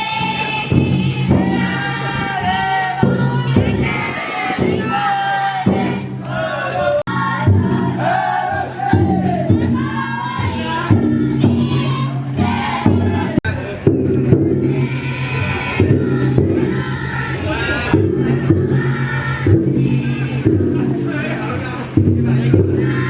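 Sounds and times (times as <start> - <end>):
group chanting and shouting: 0.0 - 23.0.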